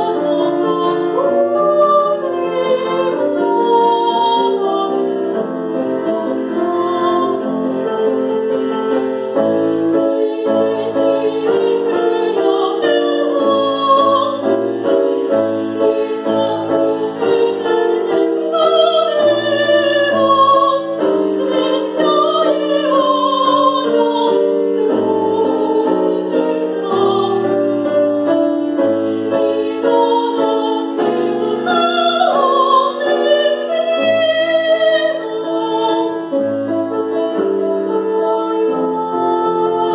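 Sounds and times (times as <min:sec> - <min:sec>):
woman singing opera: 0:00.0 - 0:07.8, 0:10.0 - 0:14.6, 0:15.4 - 0:27.9, 0:29.2 - 0:36.4, 0:37.6 - 0:39.9
piano: 0:00.0 - 0:39.9.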